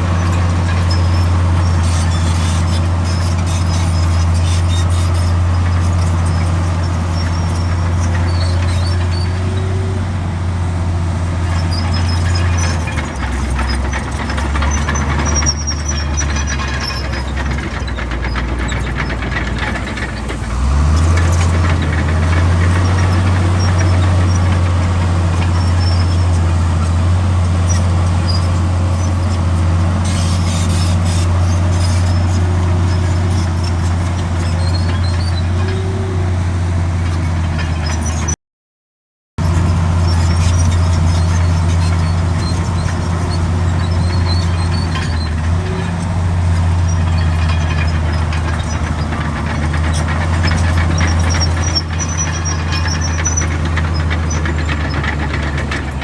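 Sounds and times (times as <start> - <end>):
high-pitched metallic squeaks: 0.0 - 10.1, 11.4 - 38.4, 39.4 - 56.0
heavy diesel machinery running: 0.0 - 38.4, 39.4 - 56.0.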